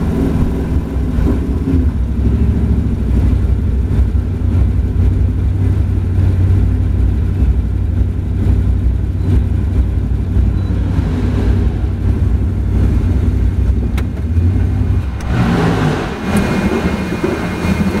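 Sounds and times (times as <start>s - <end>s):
racing car engine idling: 0.0s - 18.0s.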